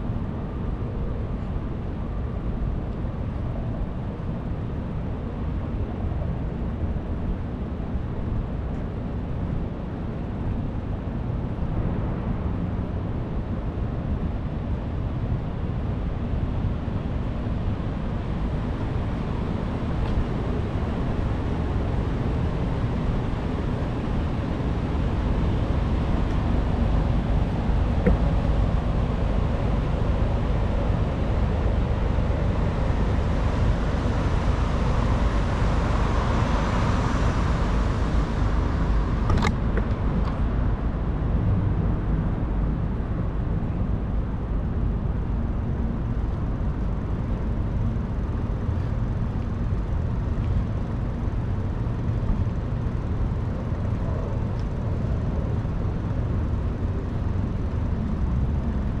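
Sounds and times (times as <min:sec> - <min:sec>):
road traffic: 0:00.0 - 0:59.0
wind rumbling on microphone: 0:00.0 - 0:59.0.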